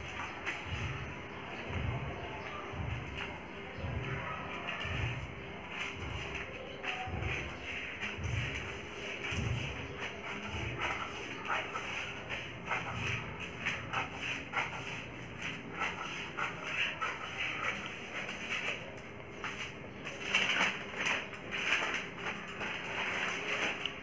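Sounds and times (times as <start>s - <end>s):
paper crackling and rustling: 3.1s - 24.0s.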